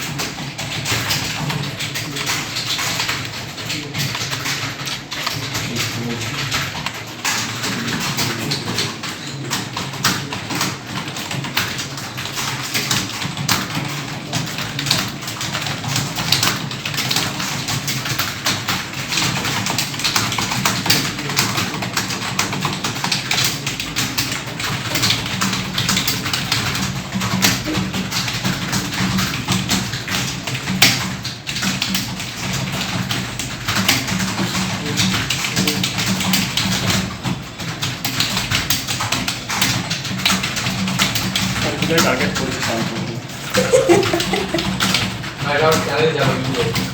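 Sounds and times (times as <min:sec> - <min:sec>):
typing on computer keyboard: 0:00.0 - 0:46.9.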